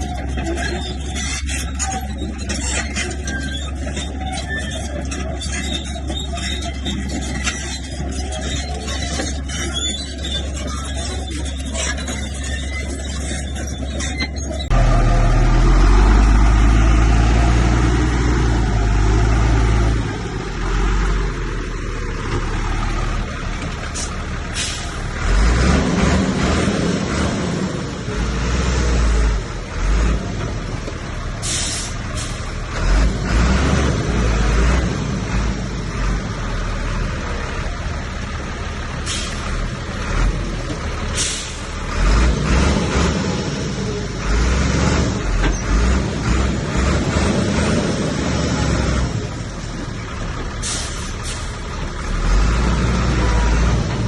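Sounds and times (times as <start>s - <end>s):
heavy machinery diesel engines rumbling: 0.0s - 54.0s.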